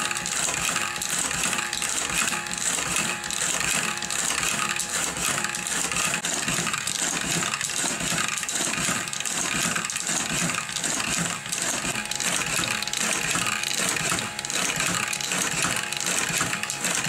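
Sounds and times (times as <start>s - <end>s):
wiper motor running: 0.0s - 17.0s.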